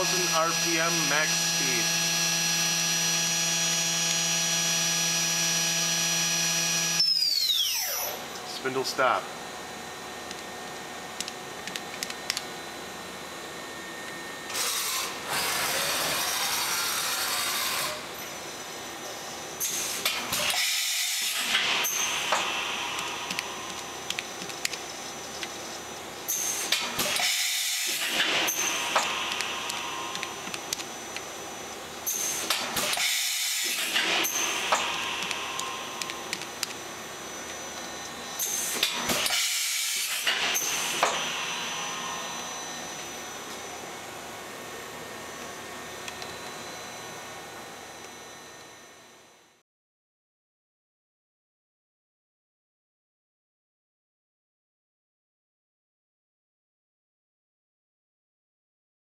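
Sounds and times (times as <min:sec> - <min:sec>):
machine spindle high whine: 0:00.0 - 0:11.2, 0:12.2 - 0:49.6.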